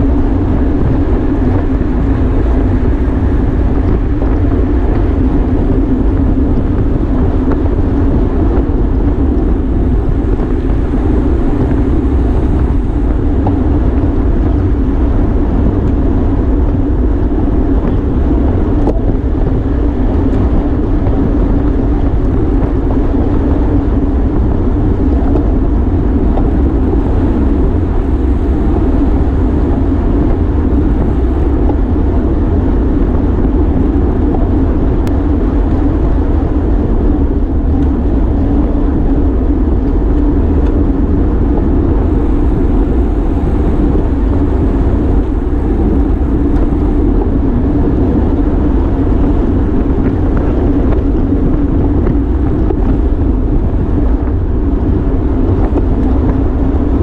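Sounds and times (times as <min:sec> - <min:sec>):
steady low hum: 0:00.0 - 0:57.0
wind buffeting microphone: 0:00.0 - 0:57.0.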